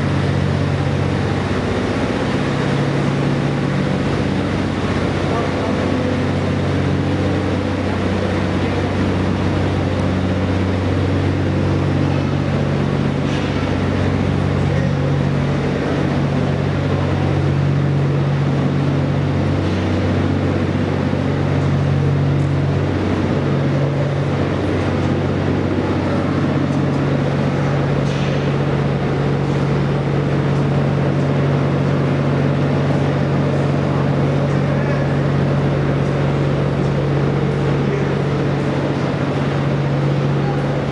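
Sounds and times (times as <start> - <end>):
railway machinery drone: 0.0 - 40.9.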